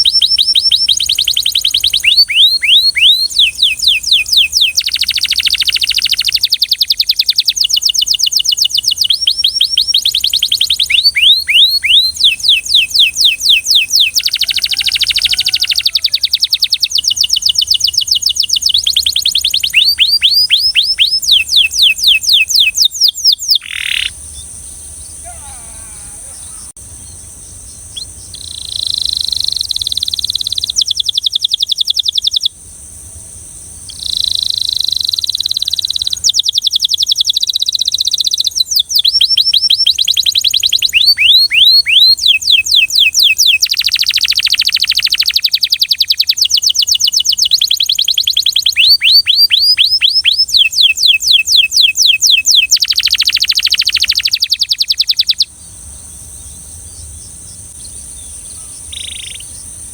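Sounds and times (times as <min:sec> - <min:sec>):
canary singing rolling trills: 0:00.0 - 0:59.9.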